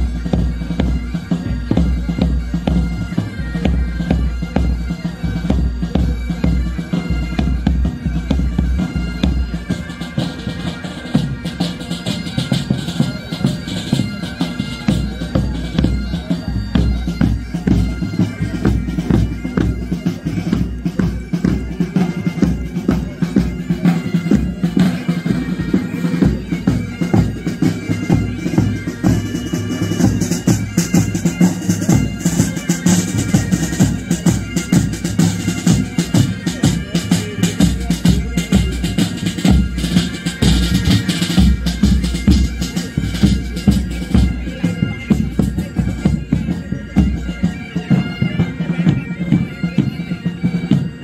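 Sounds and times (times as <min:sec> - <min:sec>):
bagpipes playing a tune: 0:00.0 - 0:51.0.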